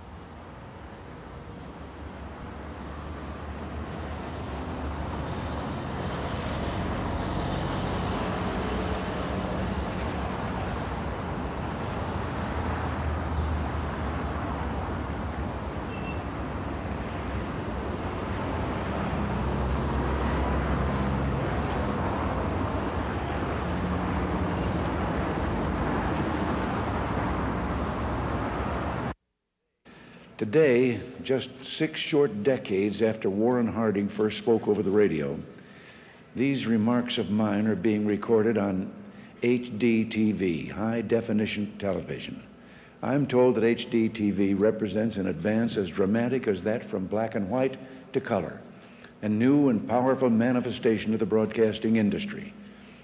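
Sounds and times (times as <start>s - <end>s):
road traffic noise: 0.0s - 29.2s, 29.9s - 41.4s, 42.0s - 53.0s.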